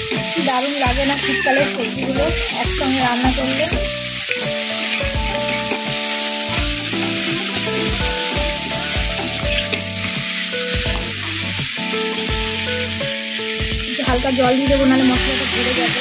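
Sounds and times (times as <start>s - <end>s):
soft instrumental music: 0.0s - 16.0s
vegetables sizzling in oil: 0.0s - 16.0s.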